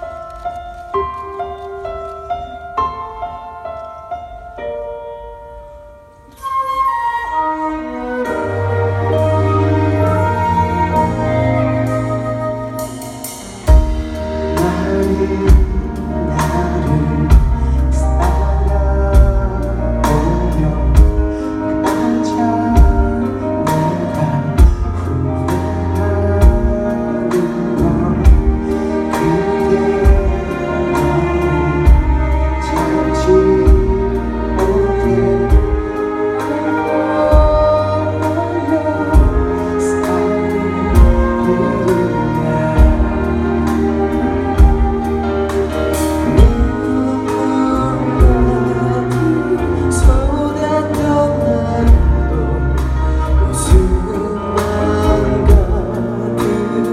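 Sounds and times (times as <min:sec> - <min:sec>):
live band music: 0:00.0 - 0:56.9.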